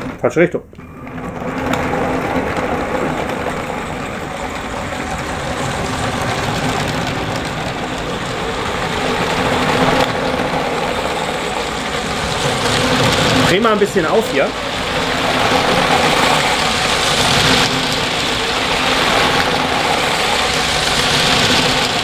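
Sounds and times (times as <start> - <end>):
toy train wheels rumbling: 0.0 - 22.0
toy train motor whirring: 0.8 - 22.0.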